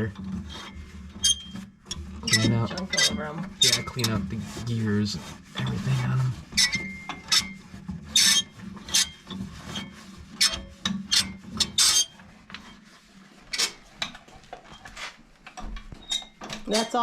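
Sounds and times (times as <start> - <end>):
scrubbing gears: 0.0 - 14.8.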